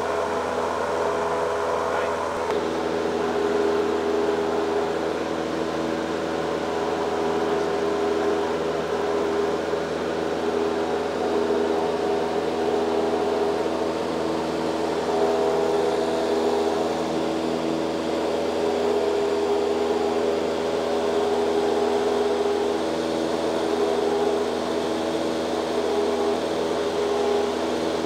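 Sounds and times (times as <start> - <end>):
aircraft engine drone in cabin: 0.0 - 28.0.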